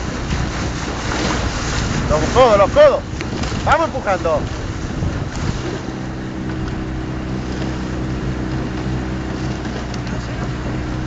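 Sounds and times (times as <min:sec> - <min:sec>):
boat motor humming: 0:00.0 - 0:11.0
wind and water hiss: 0:00.0 - 0:11.0.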